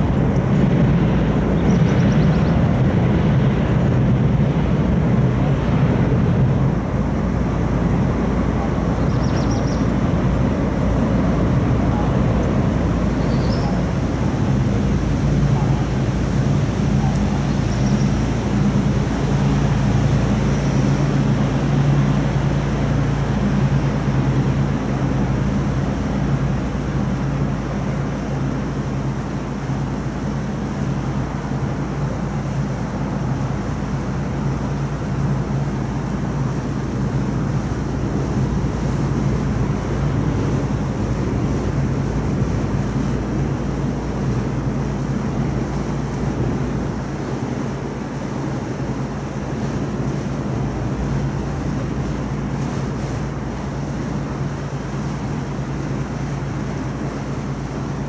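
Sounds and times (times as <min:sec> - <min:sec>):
boat engine low drone: 0:00.0 - 0:58.0
wind noise on microphone: 0:00.0 - 0:58.0.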